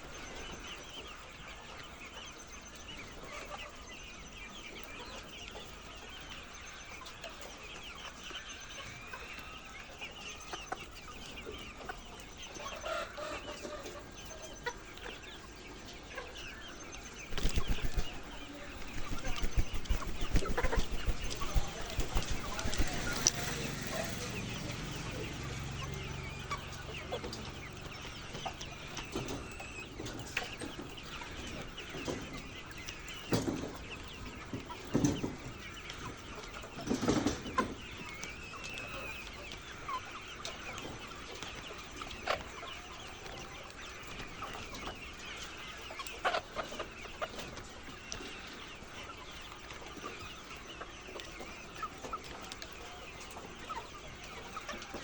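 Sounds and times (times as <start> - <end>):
hens clucking: 0.0 - 55.0.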